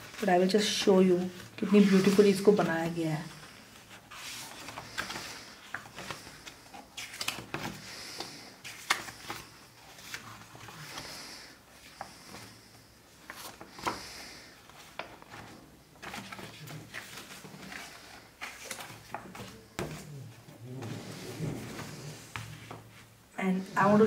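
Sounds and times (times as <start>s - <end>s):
book pages turning: 0.0s - 23.2s.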